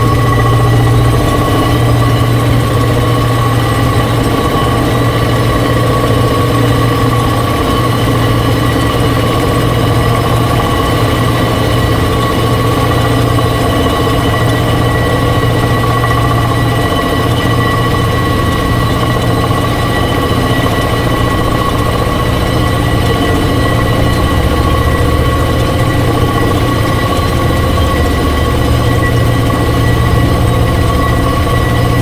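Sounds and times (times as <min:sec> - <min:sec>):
high-pitched gear whine: 0:00.0 - 0:32.0
machinery hum: 0:00.0 - 0:32.0.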